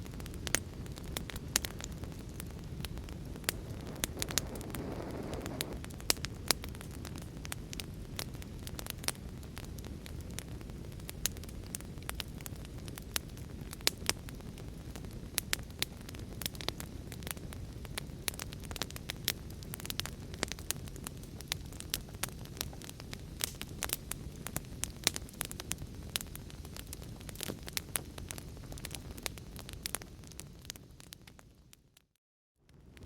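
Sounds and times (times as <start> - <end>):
flames rumbling: 0.0 - 31.6
fire crackling and popping: 0.0 - 32.1, 32.7 - 33.0.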